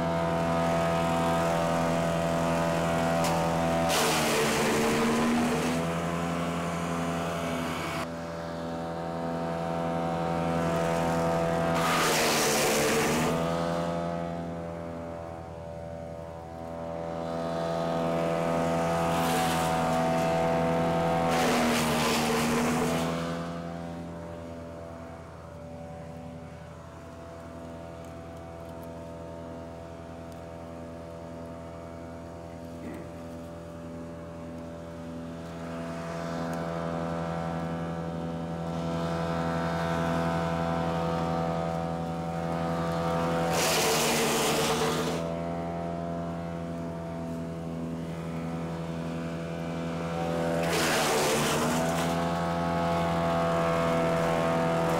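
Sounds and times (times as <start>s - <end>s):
wood chipper chipping limbs: 0.0s - 54.9s
wood chipper engine running: 0.0s - 54.9s.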